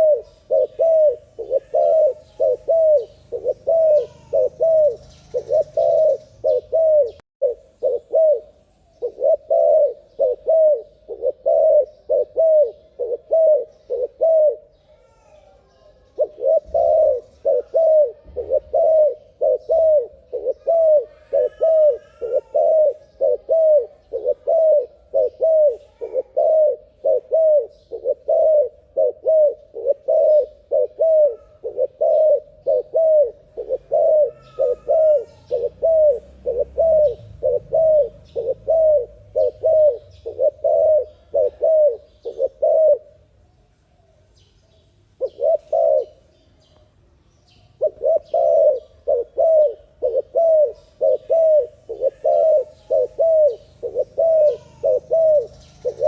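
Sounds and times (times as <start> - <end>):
dove cooing: 0.0 - 43.3, 45.2 - 46.4, 47.8 - 56.0.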